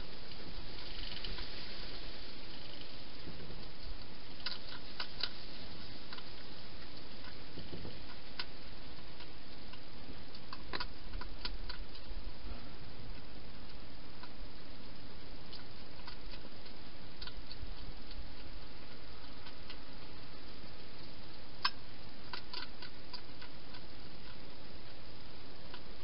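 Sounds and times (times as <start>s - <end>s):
hedgehog chewing and crunching: 0.0s - 26.0s
steady hiss: 0.0s - 26.0s.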